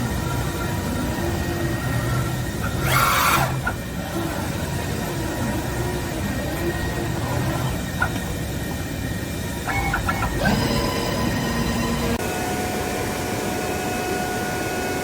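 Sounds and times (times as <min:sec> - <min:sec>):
cutting machine humming: 0:00.0 - 0:15.0.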